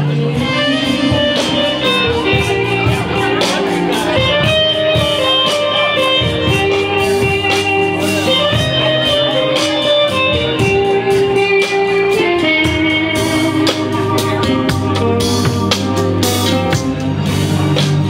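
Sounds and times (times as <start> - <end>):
guitar music with steady beat: 0.0 - 18.0.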